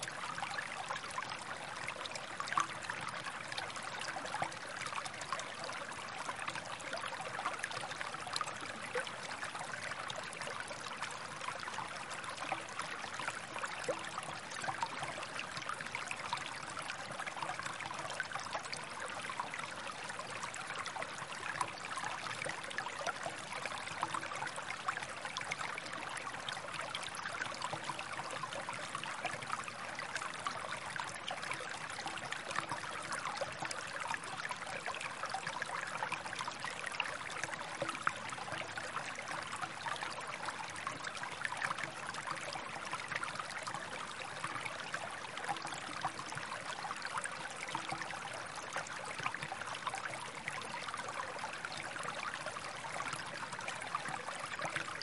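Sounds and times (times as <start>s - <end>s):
stream trickling over stones: 0.0s - 55.0s.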